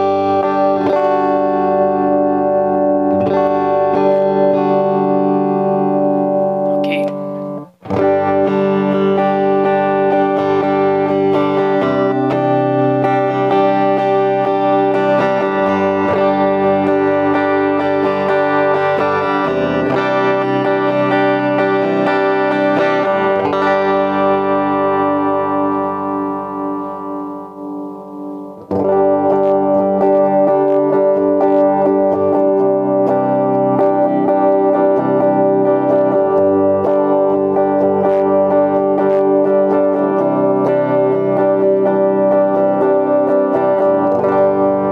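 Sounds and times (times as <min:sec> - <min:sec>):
clean electric guitar strumming: 0:00.0 - 0:44.9.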